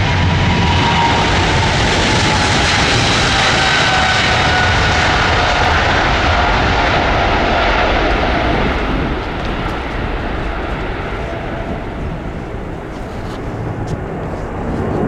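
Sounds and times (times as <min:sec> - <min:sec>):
jet airliner engines passing: 0:00.0 - 0:15.0.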